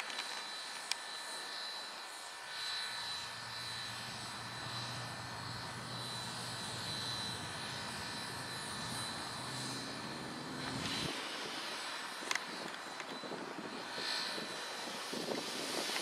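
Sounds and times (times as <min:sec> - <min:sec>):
faint high whine: 0:00.0 - 0:16.0
low engine drone: 0:02.5 - 0:16.0.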